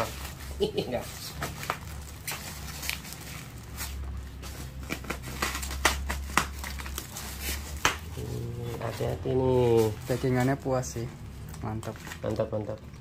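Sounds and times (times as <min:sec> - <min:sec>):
packing rustling: 0:00.0 - 0:10.9.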